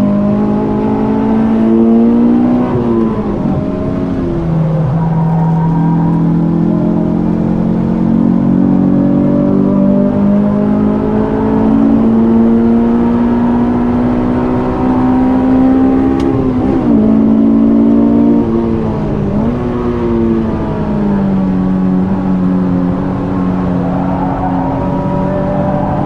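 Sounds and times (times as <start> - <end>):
car engine revving hard: 0.0 - 26.0.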